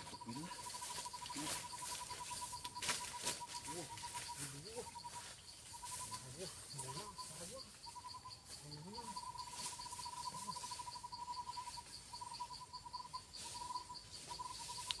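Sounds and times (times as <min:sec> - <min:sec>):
high insect chirp: 0:00.0 - 0:15.0
insect trilling: 0:00.0 - 0:15.0.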